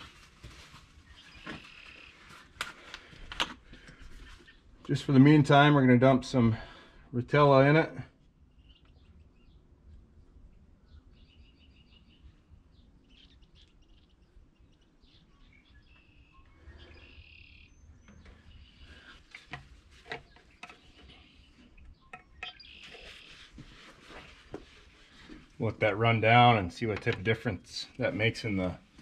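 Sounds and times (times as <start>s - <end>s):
faint birds chirping: 0.0s - 29.0s.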